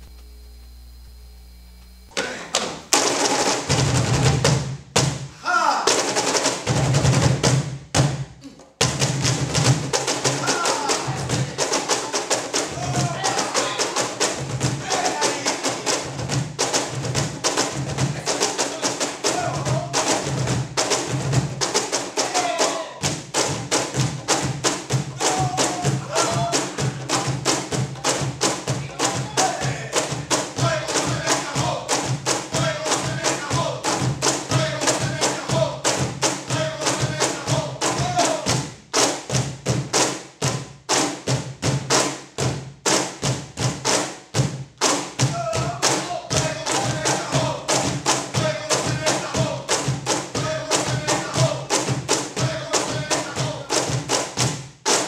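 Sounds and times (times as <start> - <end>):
hands slapping box drums: 2.2 - 5.3, 5.9 - 55.0.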